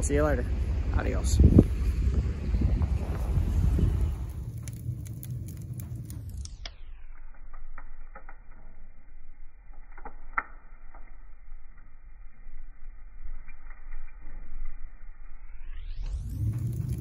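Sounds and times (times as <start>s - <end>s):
fire crackling and popping: 0.0s - 15.4s, 16.0s - 17.0s
low steady rumble: 0.0s - 17.0s.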